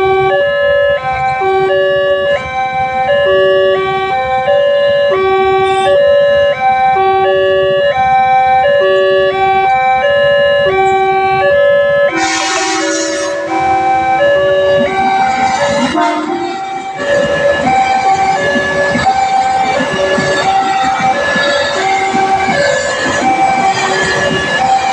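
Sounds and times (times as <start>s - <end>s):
level crossing warning sirens: 0.0s - 24.9s.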